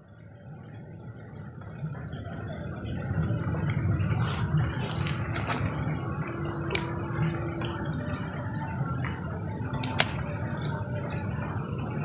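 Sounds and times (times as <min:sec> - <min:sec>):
rain falling on a pond: 0:00.0 - 0:12.0.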